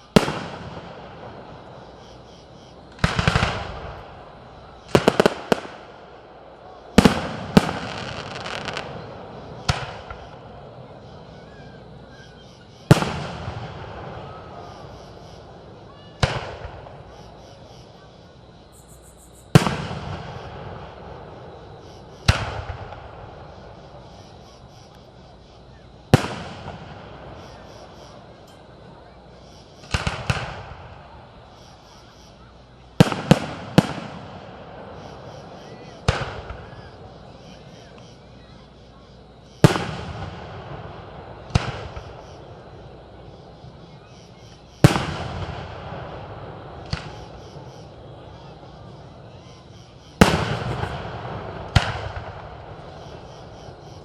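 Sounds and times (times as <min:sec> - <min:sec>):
fireworks exploding: 0:00.0 - 0:18.2, 0:19.4 - 0:38.7, 0:39.5 - 0:54.0
long rolling echo: 0:00.0 - 0:18.6, 0:19.5 - 0:54.0.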